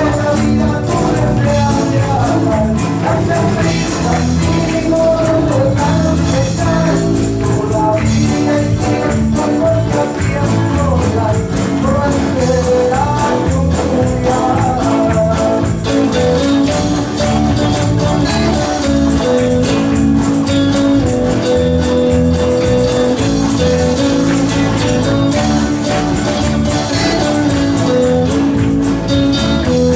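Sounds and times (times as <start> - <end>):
jingling percussion: 0.0 - 29.9
live band playing upbeat song: 0.0 - 29.9.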